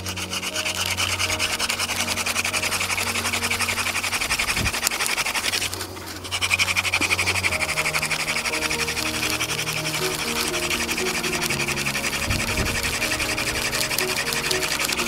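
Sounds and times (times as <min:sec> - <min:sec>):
wood-on-wood friction grinding: 0:00.0 - 0:15.0.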